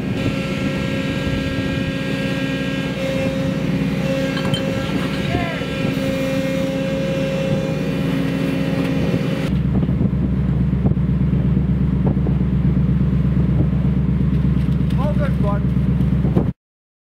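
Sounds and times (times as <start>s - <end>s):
machinery hum with whining tones: 0.0s - 15.4s
deep loud machinery drone: 0.0s - 16.6s.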